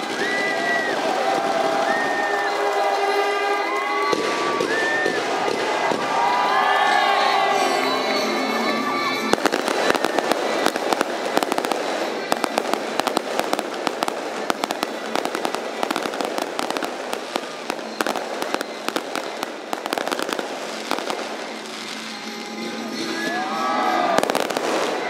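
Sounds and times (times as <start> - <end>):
fireworks crackling pops: 0.0 - 6.8, 9.2 - 23.0, 24.0 - 25.0.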